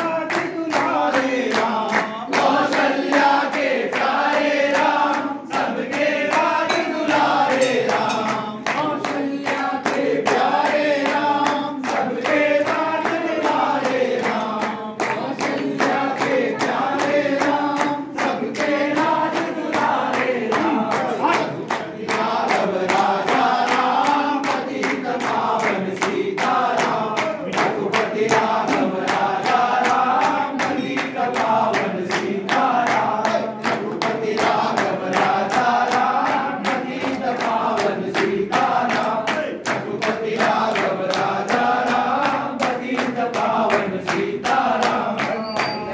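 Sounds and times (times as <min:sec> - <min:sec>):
men singing together: 0:00.0 - 0:45.9
rhythmic hand-clapping: 0:00.0 - 0:45.9.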